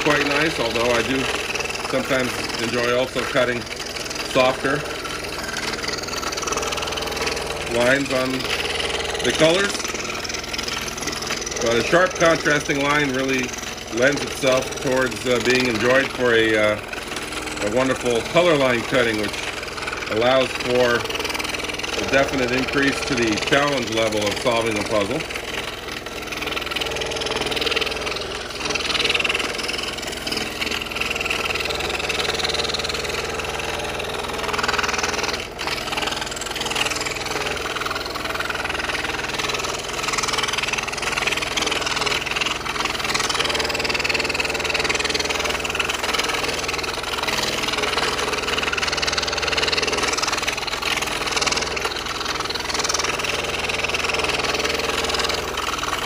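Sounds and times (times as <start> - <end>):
scroll saw cutting wood: 0.0 - 56.0.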